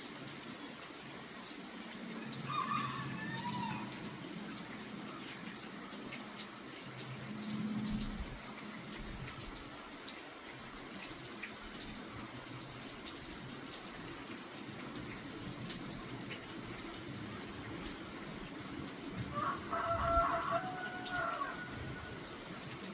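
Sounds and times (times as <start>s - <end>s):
drips and patters: 0.0s - 22.9s
steady rain falling: 0.0s - 22.9s.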